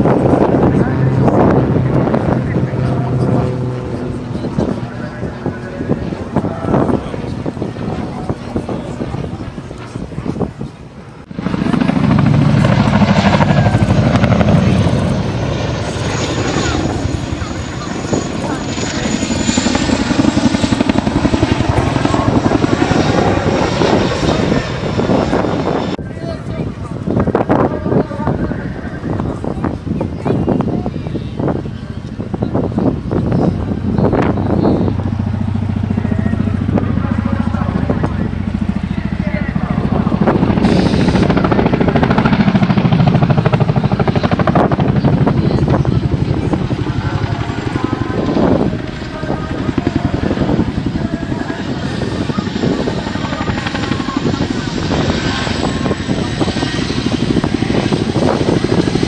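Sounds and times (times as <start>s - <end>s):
helicopter rotor beating: 0.0s - 59.0s.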